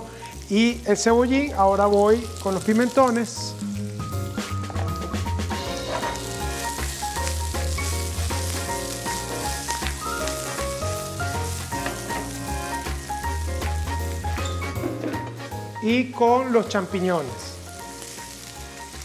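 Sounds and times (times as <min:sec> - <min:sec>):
vegetables sizzling in oil: 0:00.0 - 0:15.8, 0:16.5 - 0:19.0
background music with bass line: 0:00.0 - 0:19.0.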